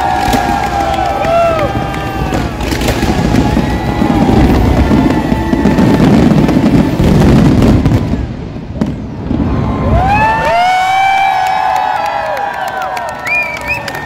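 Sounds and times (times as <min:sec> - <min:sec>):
crowd cheering: 0:00.0 - 0:08.4, 0:09.1 - 0:14.0
fireworks booming and crackling: 0:00.0 - 0:12.0.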